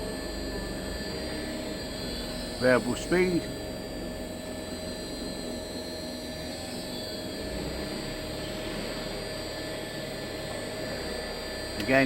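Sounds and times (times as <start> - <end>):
motor whine: 0.0 - 12.0.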